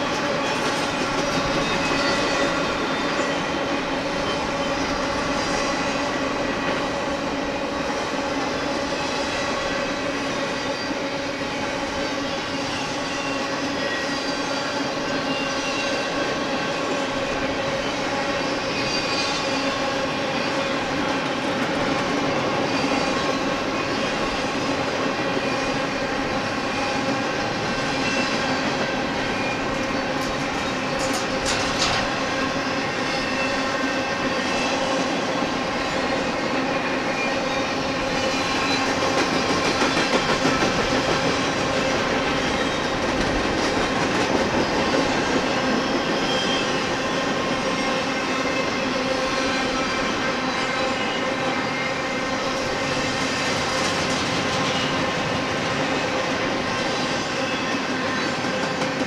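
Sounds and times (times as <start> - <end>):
freight train wheel clatter: 0.0 - 59.0.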